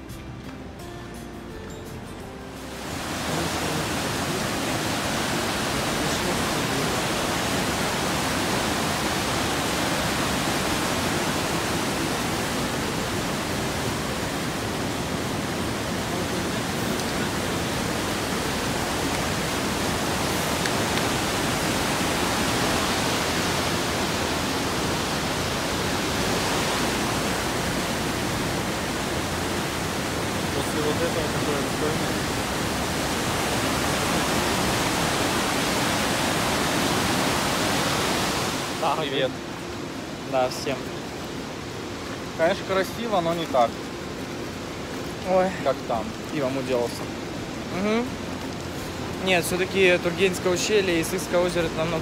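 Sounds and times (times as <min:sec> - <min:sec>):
river rushing over rocks: 0:00.0 - 0:52.0.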